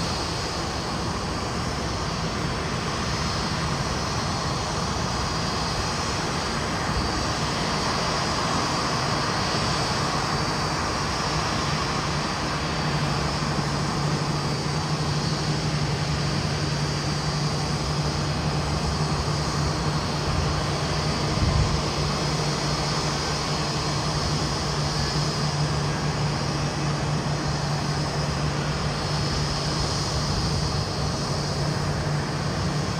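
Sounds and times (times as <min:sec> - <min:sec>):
jet engines running: 0:00.0 - 0:32.9.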